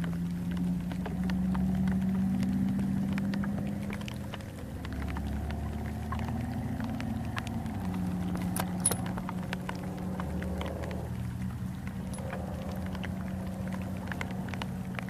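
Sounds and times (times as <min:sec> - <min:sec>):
heavy rain pattering: 0:00.0 - 0:15.0
low hum: 0:00.0 - 0:15.0.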